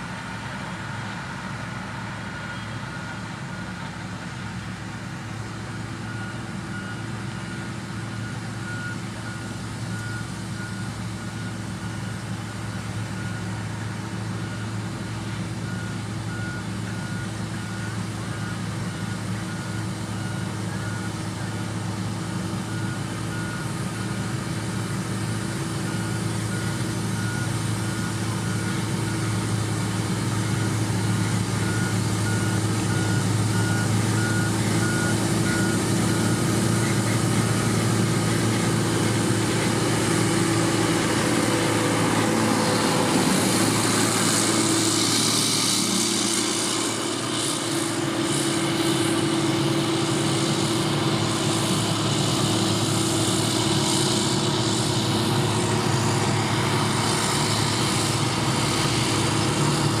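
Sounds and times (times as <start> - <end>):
diesel construction machinery: 0.0 - 60.0
reversing alarm beeping: 5.7 - 60.0.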